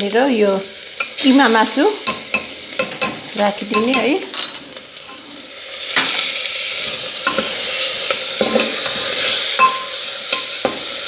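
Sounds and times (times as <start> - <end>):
meat sizzling in a hot pan: 0.0 - 11.0
metal spoon scraping a pan: 1.0 - 11.0.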